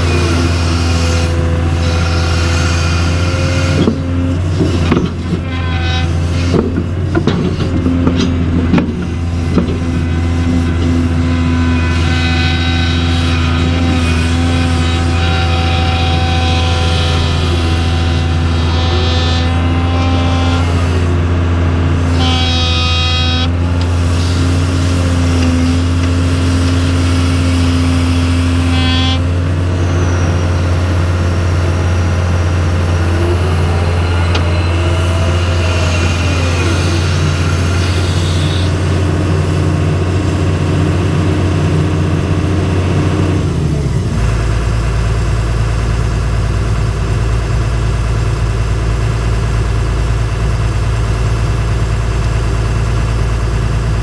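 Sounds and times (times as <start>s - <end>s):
hydraulic whines: 0.0s - 45.4s
excavator diesel engine running: 0.0s - 54.0s.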